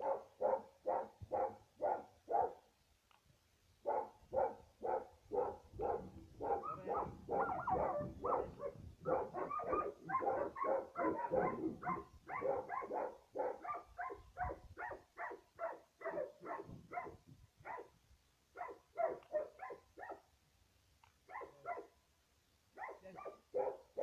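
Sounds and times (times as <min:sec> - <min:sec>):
dog barking: 0:00.0 - 0:02.6, 0:03.8 - 0:17.9, 0:18.6 - 0:20.2, 0:21.3 - 0:22.0, 0:22.8 - 0:24.0.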